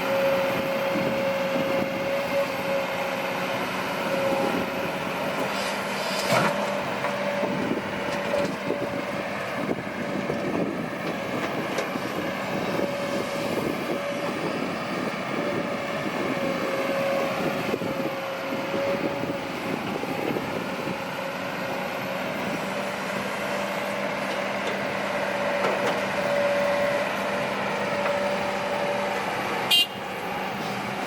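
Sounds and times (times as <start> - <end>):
diesel earth-moving machinery: 0.0 - 31.0.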